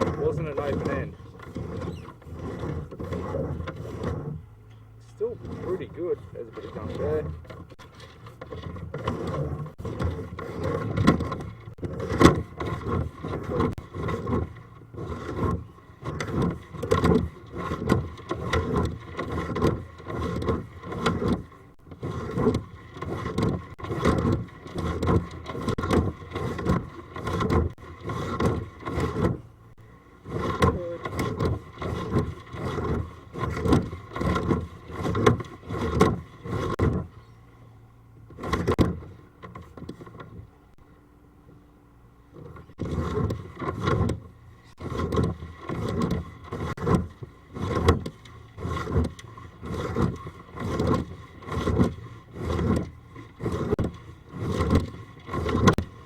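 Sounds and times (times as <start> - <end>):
cable scraping in pipe: 0.0 - 40.9, 42.3 - 56.0.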